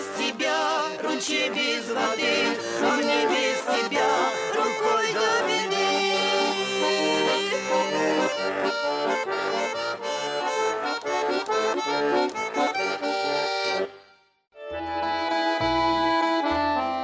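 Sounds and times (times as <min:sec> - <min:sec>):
button accordion playing folk tune: 0:00.0 - 0:17.0.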